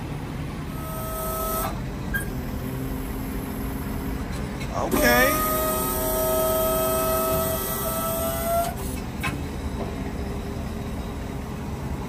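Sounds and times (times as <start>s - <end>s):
folding hitch mechanical whine: 0.0s - 12.0s.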